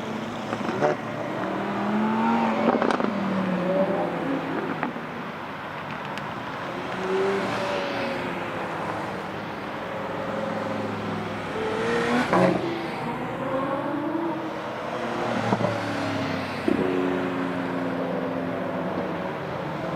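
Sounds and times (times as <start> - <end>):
car passing by close: 0.0 - 5.4, 6.3 - 19.9
racing car engines revving: 0.0 - 19.9.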